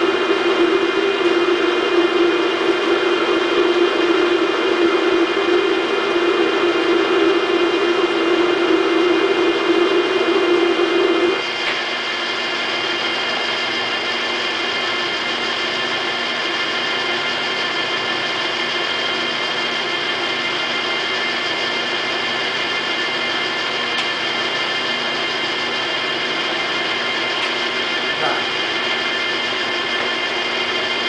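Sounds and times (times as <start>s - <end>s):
lathe mechanical whine: 0.0s - 31.0s
low hum: 0.0s - 31.0s.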